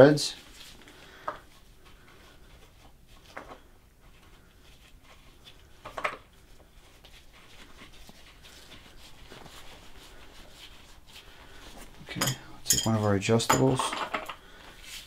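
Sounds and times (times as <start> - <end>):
faint handling sounds: 0.0 - 15.0.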